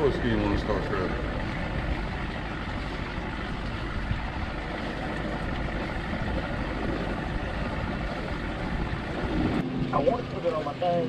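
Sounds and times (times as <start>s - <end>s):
boat motor running: 0.0s - 11.0s
water noise: 0.0s - 11.0s
wind: 0.0s - 11.0s.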